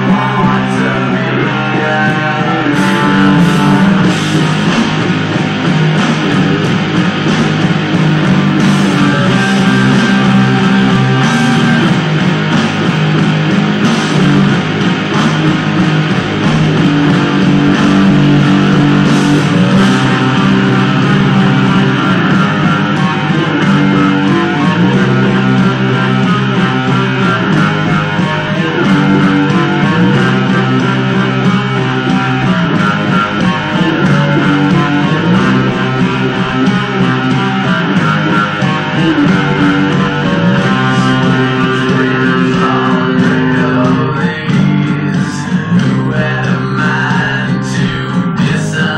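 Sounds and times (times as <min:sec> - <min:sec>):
bass: 0:00.0 - 0:48.9
plucked and strummed guitar: 0:00.0 - 0:48.9.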